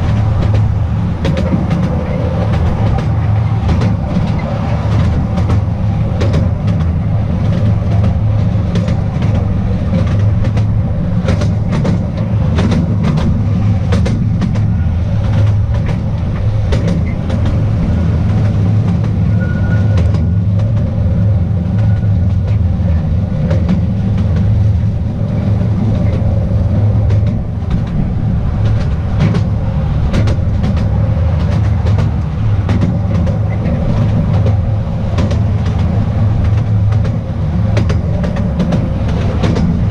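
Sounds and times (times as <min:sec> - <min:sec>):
train wheels rumbling: 0:00.0 - 0:39.9
wheels clacking over rail joints: 0:00.0 - 0:39.9.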